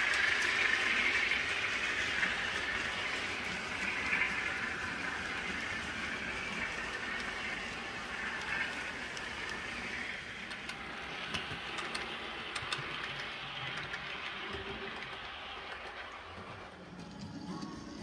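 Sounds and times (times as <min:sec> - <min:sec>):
model train whirring: 0:00.0 - 0:18.0
train wheels clicking: 0:00.0 - 0:18.0.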